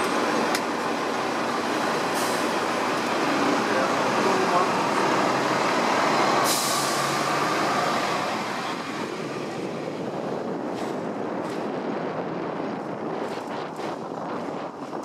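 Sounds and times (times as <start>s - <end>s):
tram wheels and motor rumbling: 0.0s - 15.0s.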